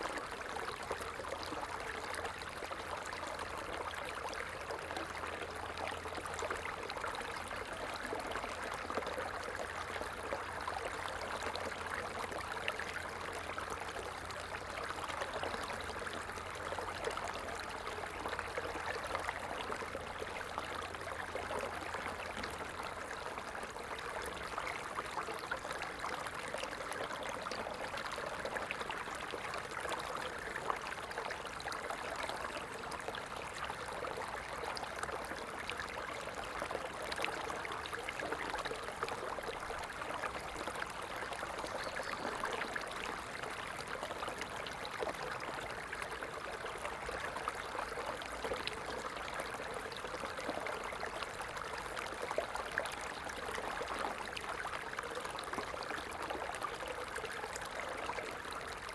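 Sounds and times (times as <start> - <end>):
small stream flowing: 0.0 - 58.9.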